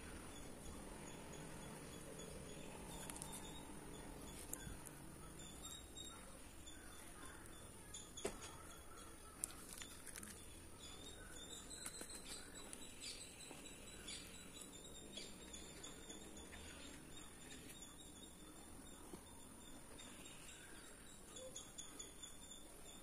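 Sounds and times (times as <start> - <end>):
faint high-pitched whine: 0.0 - 23.0.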